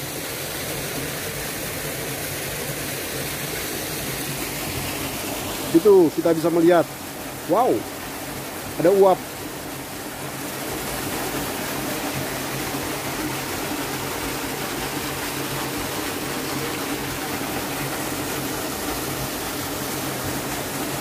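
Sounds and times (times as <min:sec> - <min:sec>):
waterfall splashing into pool: 0:00.0 - 0:21.0.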